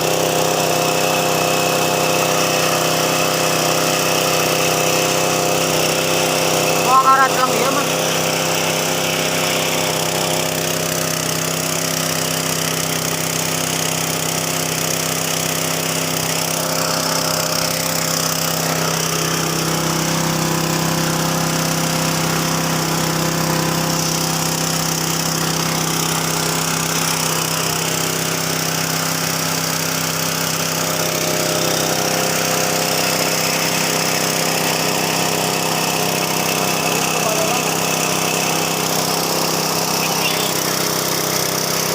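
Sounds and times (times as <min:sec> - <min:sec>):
milling machine humming and rattling: 0:00.0 - 0:41.9.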